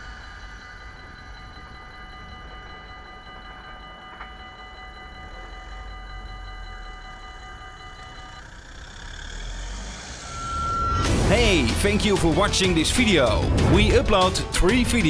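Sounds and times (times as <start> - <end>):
level-crossing warning bells: 0.0 - 15.0.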